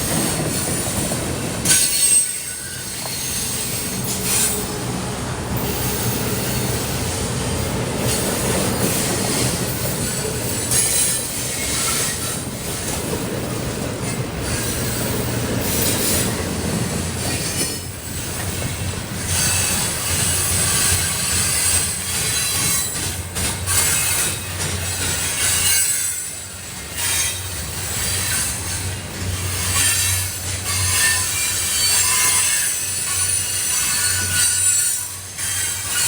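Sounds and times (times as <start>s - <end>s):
wheel squeal on rails: 0.0s - 5.0s, 5.6s - 36.0s
freight train cars rolling: 0.0s - 36.0s.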